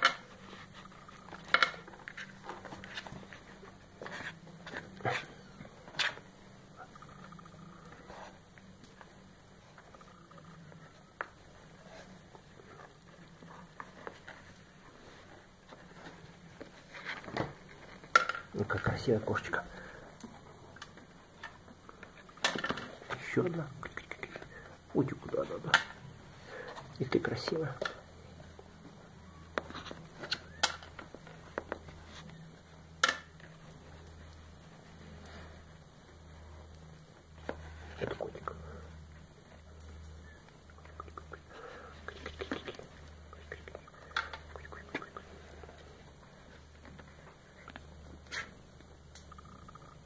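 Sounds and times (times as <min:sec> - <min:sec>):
kittens being handled rustling: 0:00.0 - 0:49.8
low steady hum: 0:00.0 - 0:50.0.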